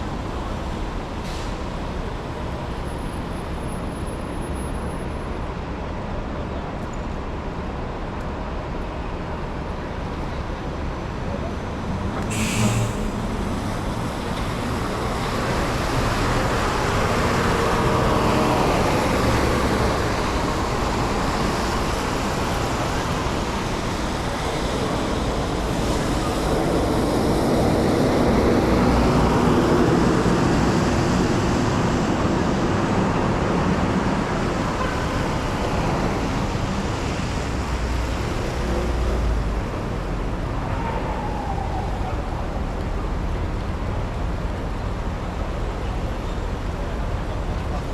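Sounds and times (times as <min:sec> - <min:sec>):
city vehicles passing: 0:00.0 - 0:47.9.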